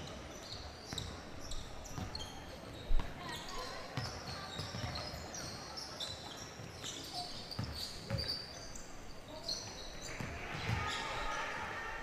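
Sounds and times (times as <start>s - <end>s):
sneakers squeaking on floor: 0.0s - 11.3s.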